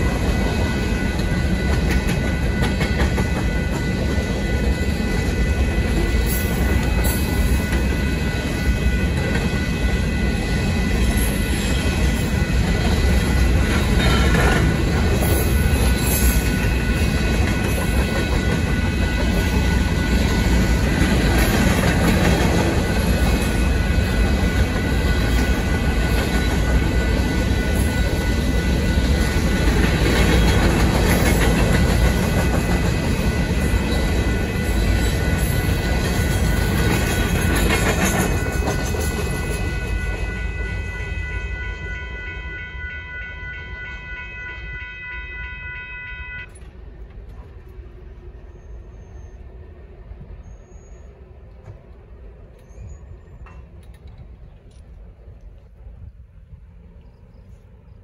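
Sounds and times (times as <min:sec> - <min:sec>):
crossing bells ringing: 0:00.0 - 0:46.9
freight train rolling: 0:00.0 - 0:58.0.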